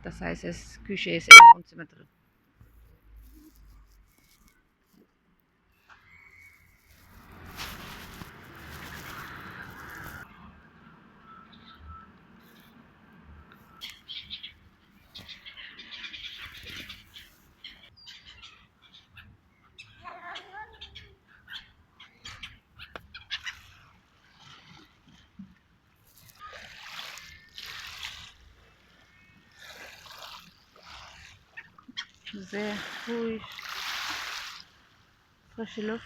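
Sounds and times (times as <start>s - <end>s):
faint outdoor background noise: 0.0s - 36.0s.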